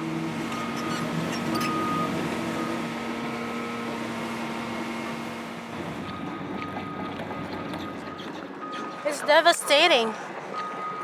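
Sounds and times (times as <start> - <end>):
heavy machinery engine humming: 0.0 - 11.0
outdoor background noise: 0.0 - 11.0.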